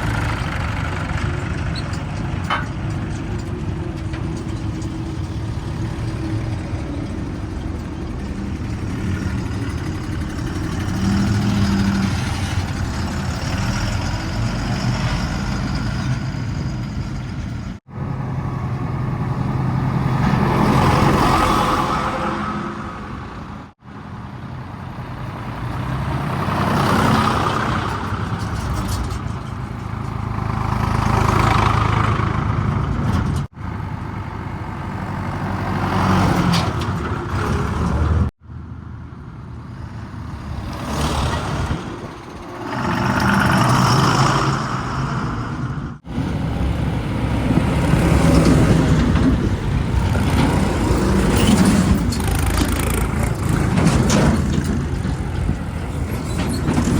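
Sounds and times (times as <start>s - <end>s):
heavy diesel engines running: 0.0s - 56.9s.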